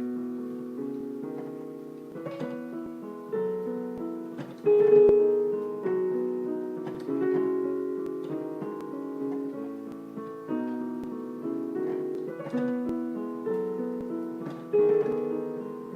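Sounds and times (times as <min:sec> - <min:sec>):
piano chords: 0:00.0 - 0:15.9.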